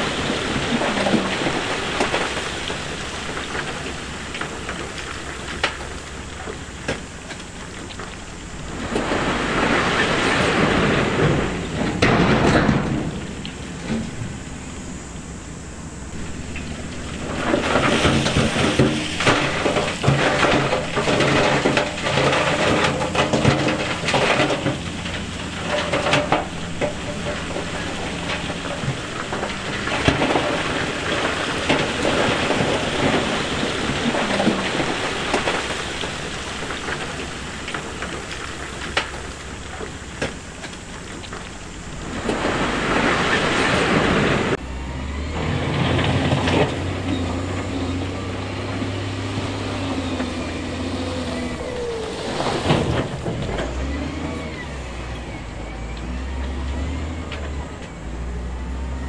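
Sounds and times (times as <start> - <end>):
rock and stone clattering: 0.0 - 44.6, 45.6 - 59.0
diesel machinery rumbling: 0.0 - 59.0.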